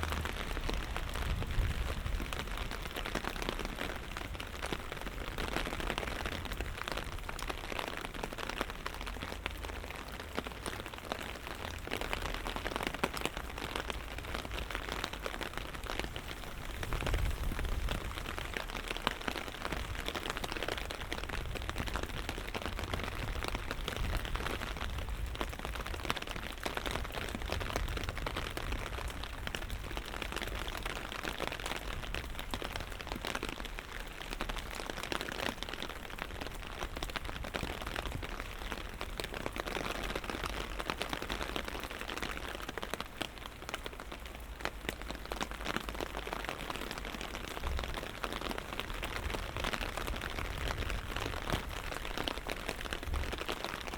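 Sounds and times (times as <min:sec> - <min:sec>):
light rain pattering: 0:00.0 - 0:53.9.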